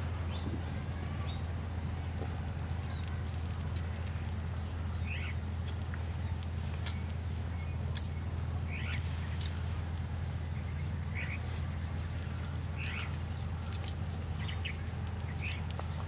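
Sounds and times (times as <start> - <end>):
steady low hum: 0.0 - 16.0
wood fire crackling and popping: 0.0 - 16.0.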